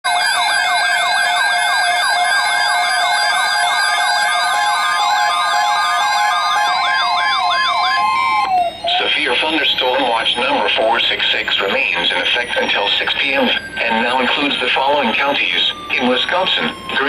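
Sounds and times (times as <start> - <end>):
warbling siren alarm: 0.1 - 17.0.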